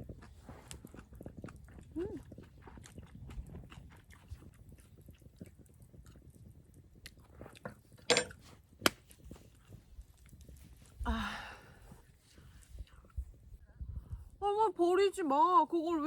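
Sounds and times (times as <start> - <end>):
soft chewing: 0.0 - 14.4.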